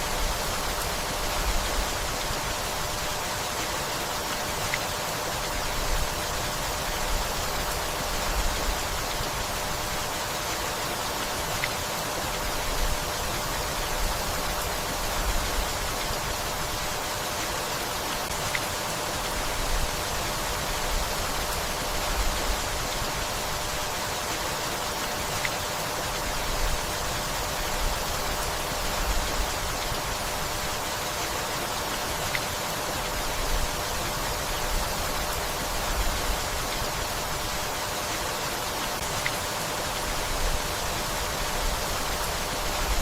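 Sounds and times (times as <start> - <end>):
steady rainfall: 0.0 - 43.0.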